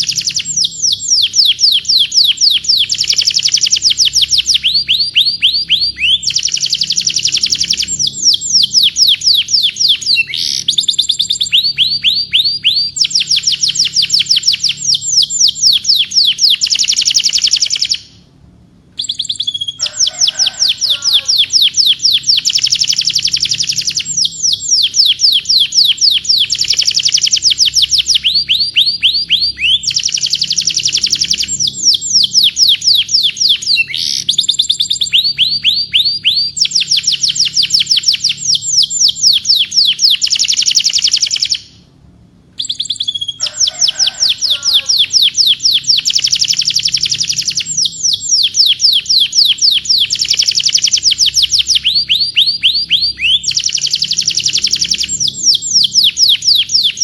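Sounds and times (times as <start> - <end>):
canary singing: 0.0 - 18.4, 19.0 - 41.9, 42.6 - 57.0.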